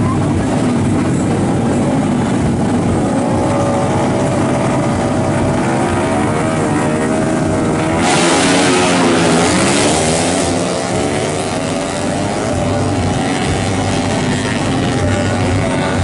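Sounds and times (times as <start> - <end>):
motorcycles accelerating away: 0.0 - 16.0
motorcycles revving: 0.0 - 16.0.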